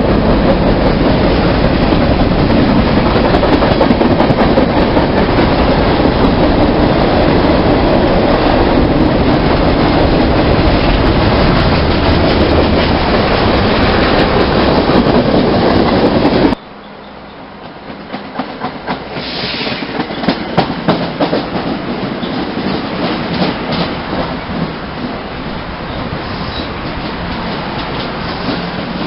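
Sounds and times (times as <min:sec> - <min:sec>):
train wheels clattering over rail joints: 0:00.0 - 0:16.6, 0:17.6 - 0:25.2, 0:25.9 - 0:29.0
train passing with loud rumble: 0:00.0 - 0:29.0.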